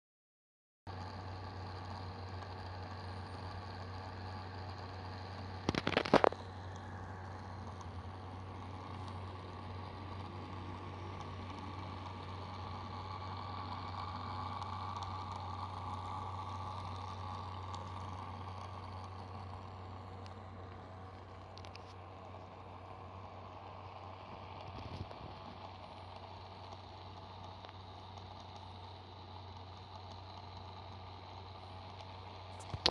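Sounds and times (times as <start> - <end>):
vehicle humming: 0.9 - 32.9.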